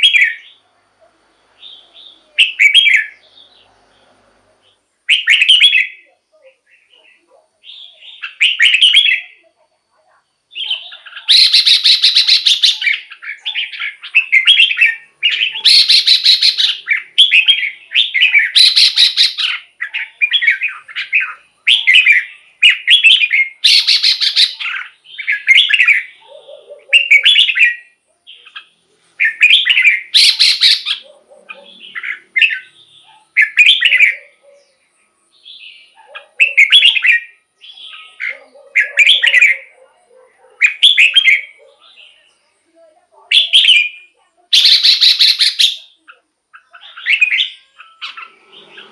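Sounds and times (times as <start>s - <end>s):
bird singing warbled phrases: 0.0s - 0.7s, 1.4s - 48.9s.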